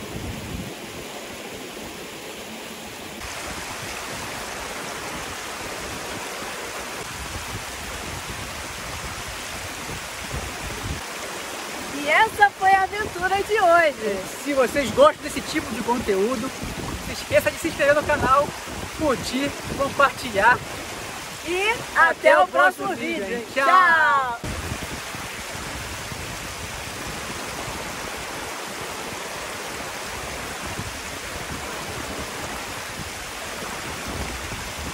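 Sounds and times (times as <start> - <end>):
river water flowing: 0.0 - 34.9
stream rushing over rocks: 0.0 - 34.9.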